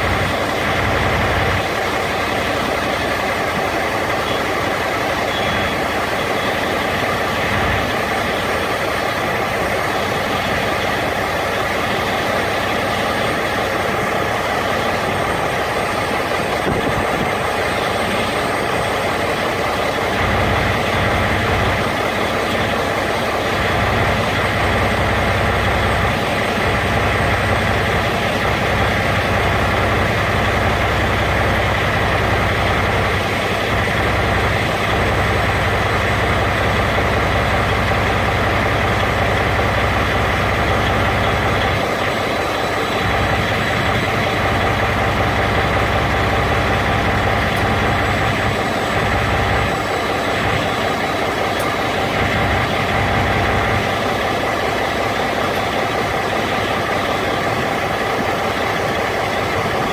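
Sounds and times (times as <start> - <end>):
refrigeration unit drone: 0.0 - 59.9.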